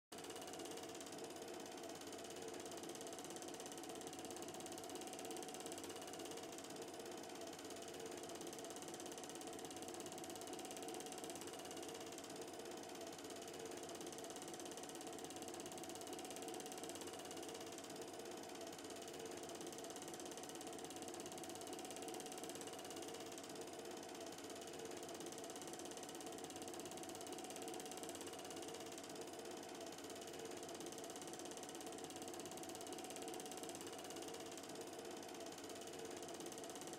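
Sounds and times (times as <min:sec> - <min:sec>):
film projector clattering: 0:00.2 - 0:36.9.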